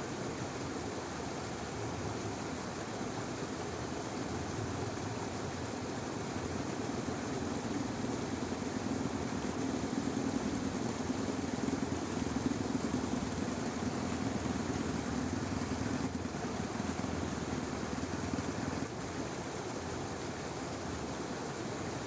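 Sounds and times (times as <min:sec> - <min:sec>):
outdoor hiss: 0:00.0 - 0:22.0
motor vehicle engine hum: 0:03.3 - 0:21.2.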